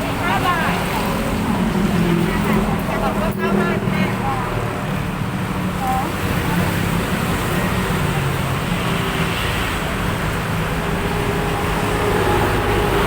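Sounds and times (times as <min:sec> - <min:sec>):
low engine hum: 0:00.0 - 0:13.0
road traffic noise: 0:00.0 - 0:13.0.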